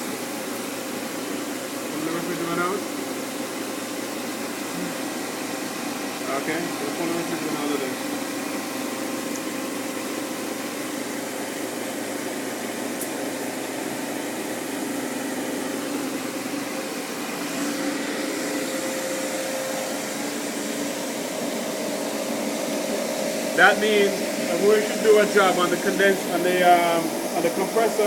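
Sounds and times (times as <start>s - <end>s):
recovery machine mechanical hum: 0.0s - 28.0s.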